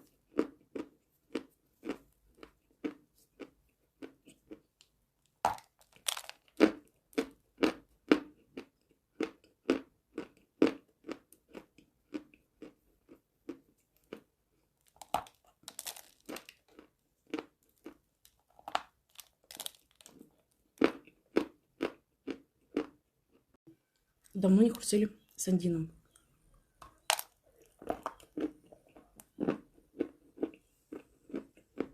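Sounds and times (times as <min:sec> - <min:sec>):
person chewing crunchy chalk: 0:00.0 - 0:04.9, 0:05.5 - 0:23.4, 0:26.1 - 0:31.9.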